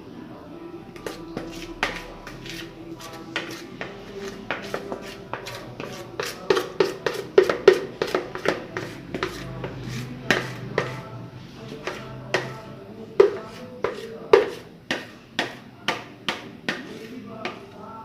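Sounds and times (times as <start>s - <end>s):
quiet background music: 0.0s - 18.0s
utensil scraping against kitchenware: 1.0s - 12.6s, 13.2s - 17.7s.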